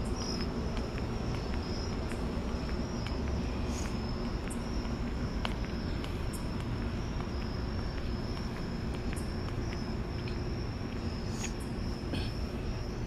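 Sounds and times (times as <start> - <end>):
crickets trilling: 0.0 - 13.0
faint footsteps on pavement: 0.0 - 13.0
low rumble of city traffic: 0.0 - 13.0.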